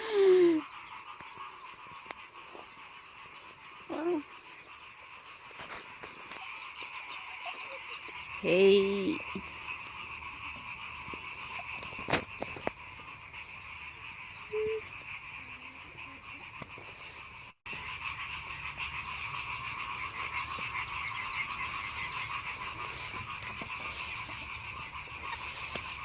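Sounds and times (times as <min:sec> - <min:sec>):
small animals chorus calling: 0:00.0 - 0:26.0.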